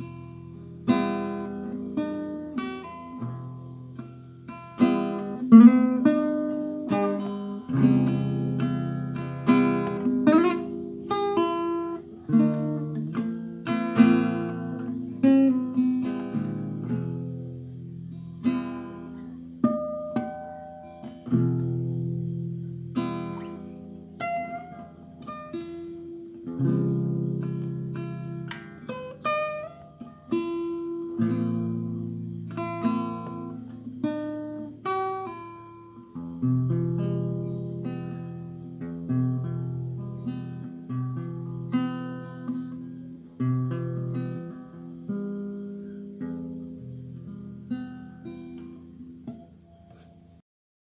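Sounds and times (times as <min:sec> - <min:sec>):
acoustic guitar playing: 0:00.0 - 0:50.4.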